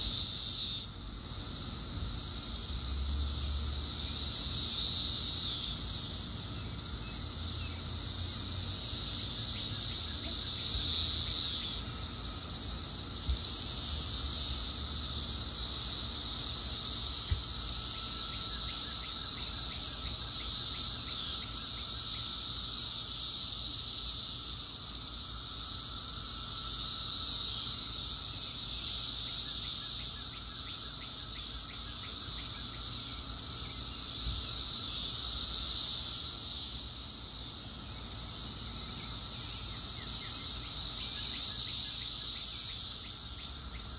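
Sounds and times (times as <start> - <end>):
cicadas buzzing: 0.0 - 43.9.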